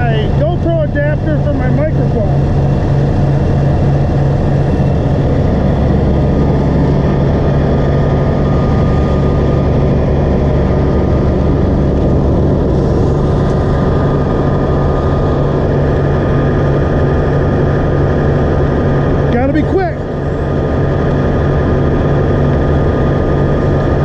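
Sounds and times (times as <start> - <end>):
wood chipper engine running: 0.0 - 24.0.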